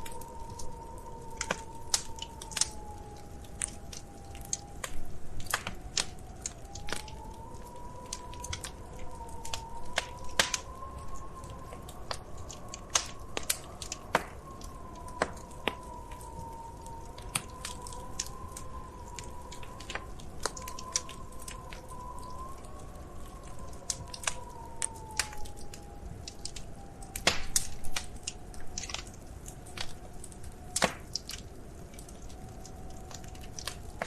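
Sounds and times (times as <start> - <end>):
low steady hiss: 0.0 - 34.0
wood fire crackling: 0.0 - 34.0.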